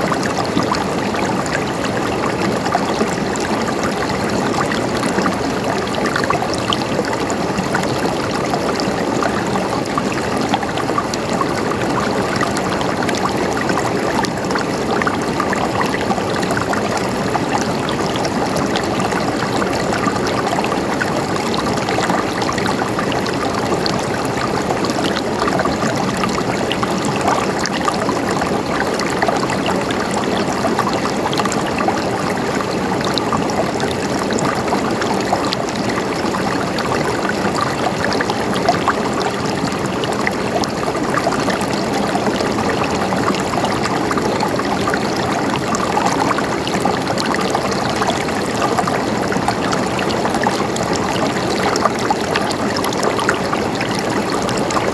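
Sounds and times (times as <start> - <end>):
stream water gurgling: 0.0 - 54.9.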